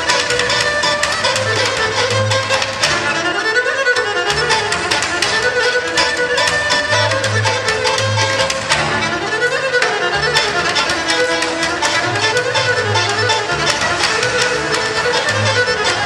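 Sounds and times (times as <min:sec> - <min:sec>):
bowed fiddle melody: 0:00.0 - 0:16.0
plucked double bass: 0:00.0 - 0:16.0
strummed lute: 0:00.0 - 0:16.0.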